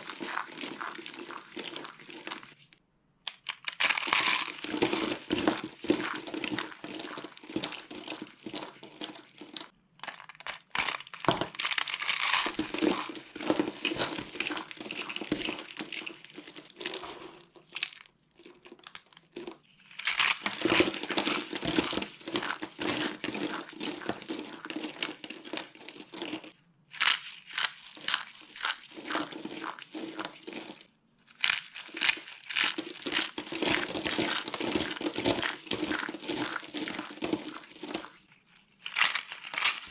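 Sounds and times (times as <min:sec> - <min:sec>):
dry soap crunching: 0:00.0 - 0:39.9.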